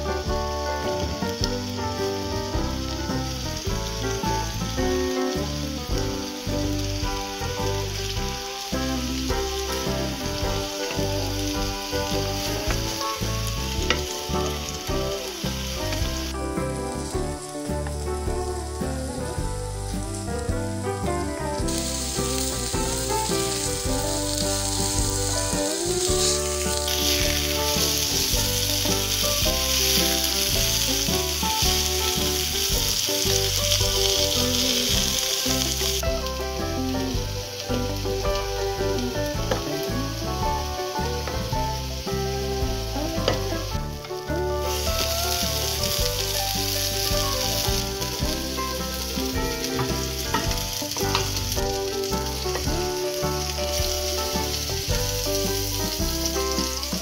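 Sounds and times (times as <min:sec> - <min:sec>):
patties sizzling in oil: 0:00.0 - 0:57.0.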